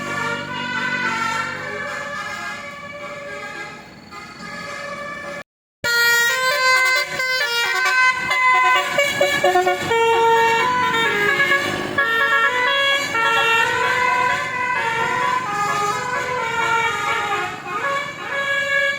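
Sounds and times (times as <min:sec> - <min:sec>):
multi-tone air horn tune: 0:00.0 - 0:18.9.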